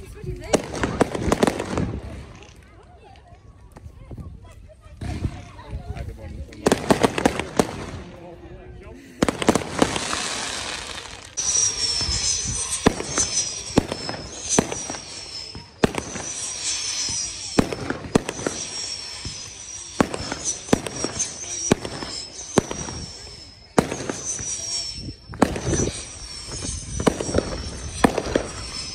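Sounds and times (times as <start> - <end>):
high-pitched firework whistles: 0.2 - 8.4, 9.2 - 28.9
fireworks bangs: 0.4 - 2.7, 6.5 - 8.2, 9.2 - 28.9.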